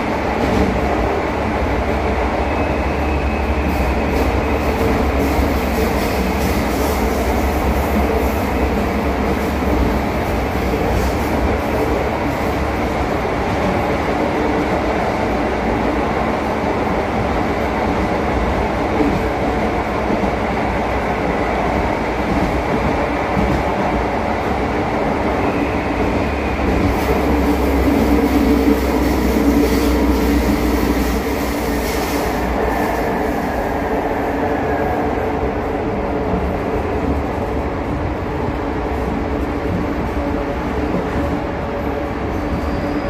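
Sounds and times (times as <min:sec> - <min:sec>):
metro train rumbling: 0:00.0 - 0:43.0.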